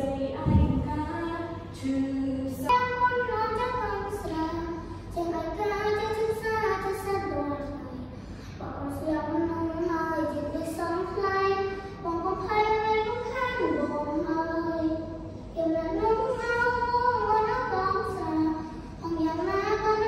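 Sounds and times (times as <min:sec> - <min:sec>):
girl singing into a microphone: 0:00.0 - 0:20.0.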